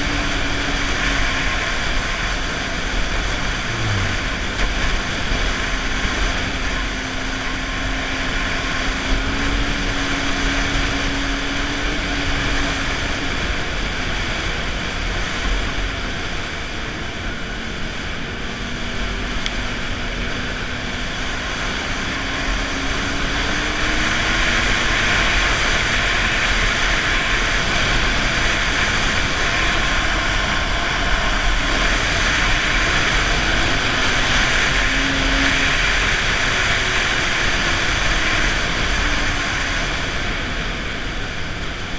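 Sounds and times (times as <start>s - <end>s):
snowmobile engine running: 0.0s - 41.9s.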